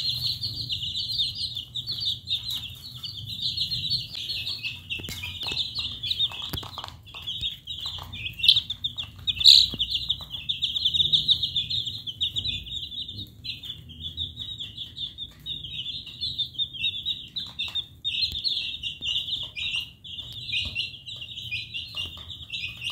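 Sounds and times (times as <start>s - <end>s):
baby chicks peeping: 0.0s - 22.9s.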